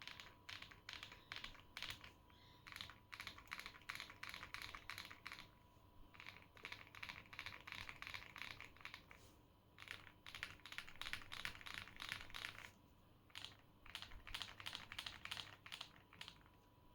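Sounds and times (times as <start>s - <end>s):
mechanical keyboard typing: 0.0s - 9.2s, 9.8s - 12.7s, 13.3s - 16.6s.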